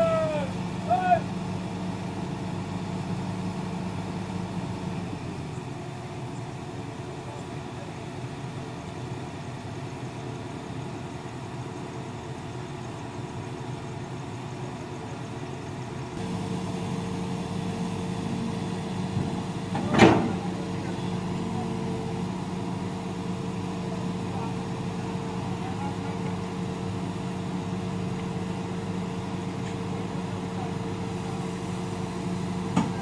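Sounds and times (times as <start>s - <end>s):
excavator diesel engine idling: 0.0s - 33.0s.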